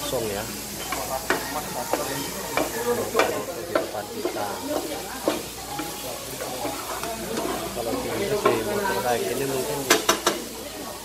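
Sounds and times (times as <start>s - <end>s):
meat and vegetables sizzling: 0.0s - 11.0s
spatulas scraping a pan: 0.6s - 10.8s.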